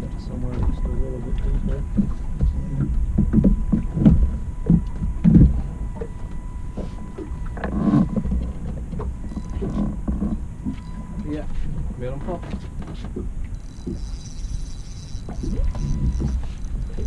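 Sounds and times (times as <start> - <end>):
faint steady high tone: 0.0 - 11.6, 13.5 - 17.0
low thuds: 0.0 - 17.0
water lapping against boat: 0.0 - 17.0
wind buffeting microphone: 0.0 - 17.0.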